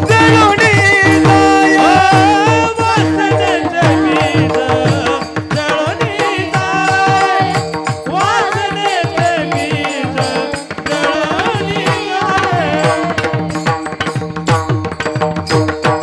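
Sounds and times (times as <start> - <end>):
person singing: 0.0 - 14.1.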